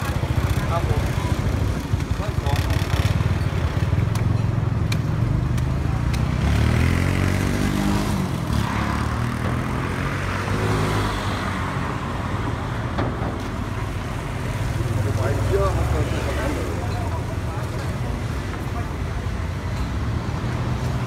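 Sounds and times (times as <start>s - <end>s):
low traffic rumble: 0.0s - 21.0s
motorbike and car engines: 0.0s - 21.0s.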